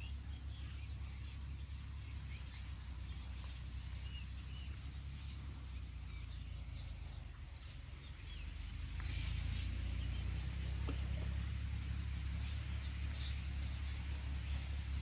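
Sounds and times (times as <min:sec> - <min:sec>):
faint bird chirps: 0:00.0 - 0:15.0
wind rumbling on microphone: 0:00.0 - 0:15.0.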